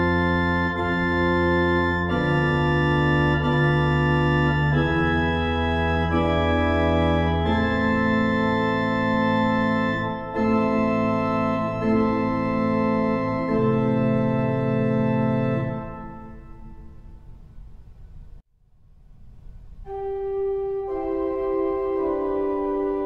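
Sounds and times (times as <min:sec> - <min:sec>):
organ playing held chords: 0:00.0 - 0:17.4, 0:19.9 - 0:23.0.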